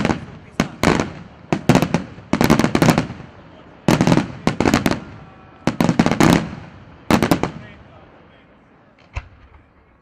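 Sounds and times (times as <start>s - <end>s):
fireworks bangs: 0.0s - 8.2s, 9.0s - 10.0s.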